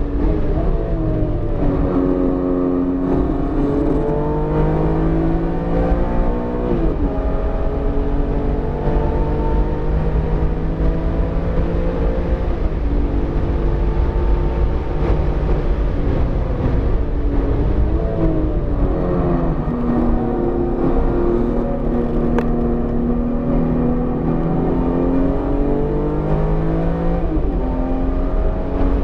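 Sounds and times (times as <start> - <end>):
car engine revving under throttle: 0.0 - 29.0.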